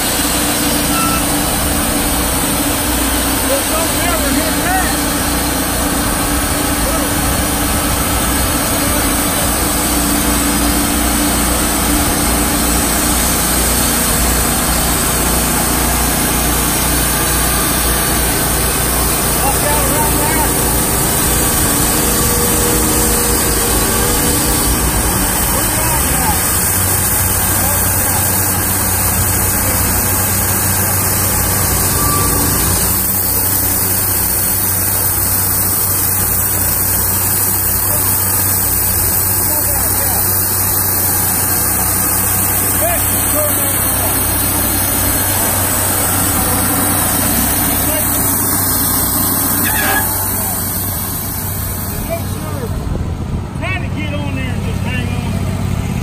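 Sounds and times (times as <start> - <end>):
band saw cutting log: 0.0 - 53.0
sawmill engine under load: 0.0 - 56.0.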